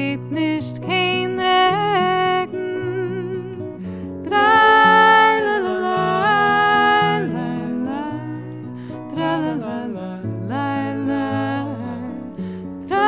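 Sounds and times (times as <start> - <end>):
woman singing wordless notes: 0.0 - 12.3
acoustic guitar: 0.0 - 13.0.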